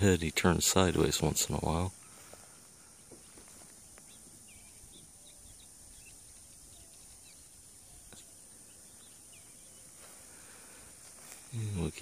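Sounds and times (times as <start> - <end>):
steady high hiss: 0.0 - 12.0
bird chirps: 1.0 - 10.8.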